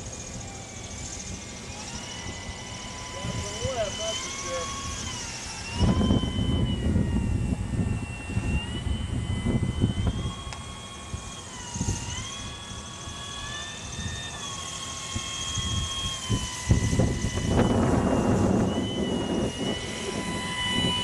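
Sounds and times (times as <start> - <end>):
electric motor and propeller whining: 0.0 - 21.0.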